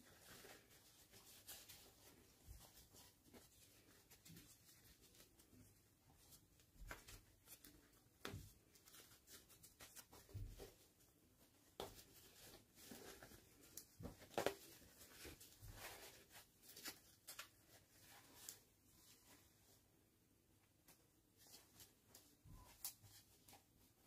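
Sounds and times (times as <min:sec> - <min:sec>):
fabric rustling: 0:00.0 - 0:19.9.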